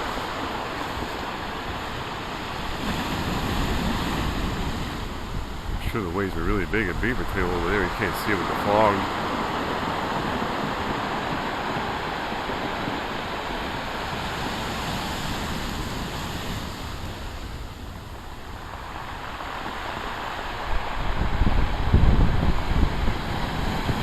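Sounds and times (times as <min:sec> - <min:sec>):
waves breaking on shore: 0:00.0 - 0:24.0.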